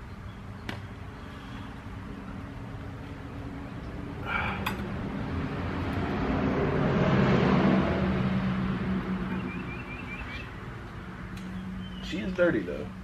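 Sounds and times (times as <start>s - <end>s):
motor vehicle passing: 0.7s - 13.0s.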